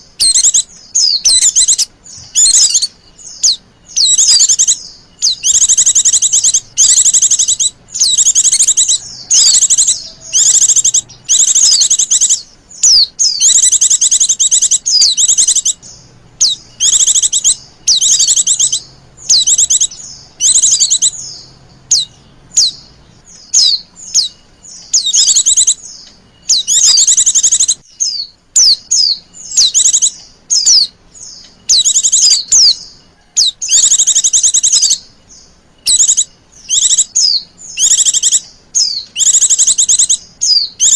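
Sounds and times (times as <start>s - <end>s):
bird high-pitched chattering call: 0.0s - 40.9s.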